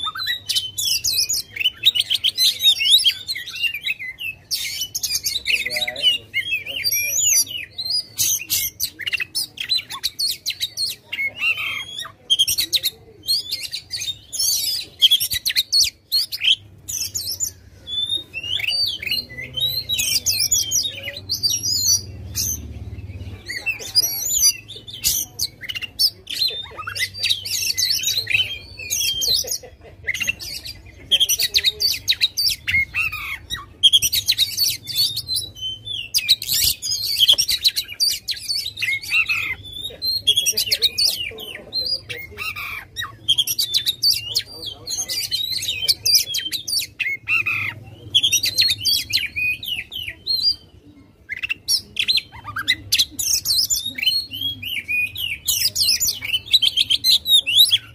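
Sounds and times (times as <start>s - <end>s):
bird singing whistles and trills: 0.0s - 41.4s, 42.0s - 57.9s.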